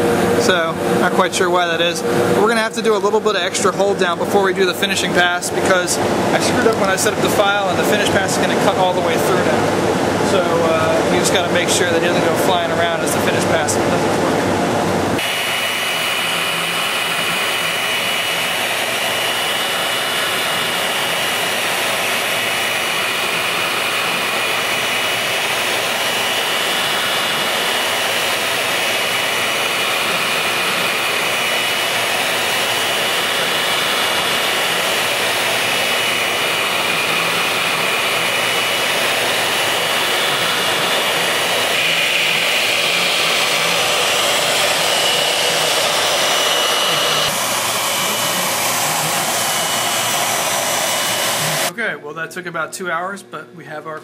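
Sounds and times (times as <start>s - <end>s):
dust extraction air rush: 0.0s - 51.7s
router spindle high whine: 0.0s - 51.8s.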